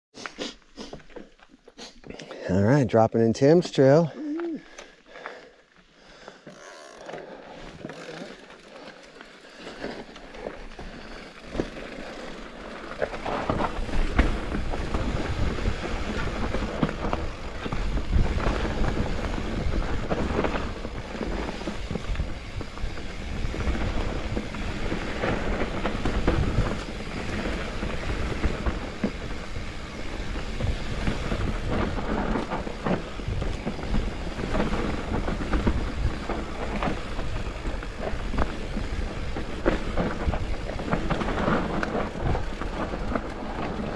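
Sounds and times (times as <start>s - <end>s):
bike tyres rumbling over dirt: 6.1s - 43.9s
bike knocking and rattling: 6.2s - 43.9s.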